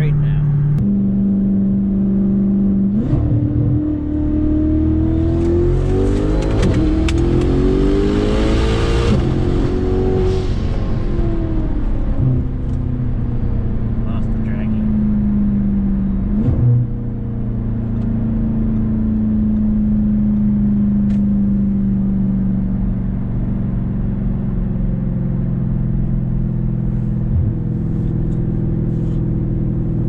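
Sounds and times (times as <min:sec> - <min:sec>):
car engine drone: 0:00.0 - 0:30.0
road noise: 0:00.0 - 0:30.0.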